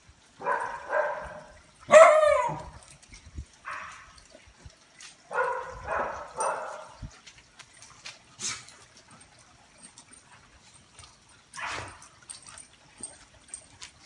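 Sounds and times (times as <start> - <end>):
dogs barking and yipping: 0.4 - 14.0.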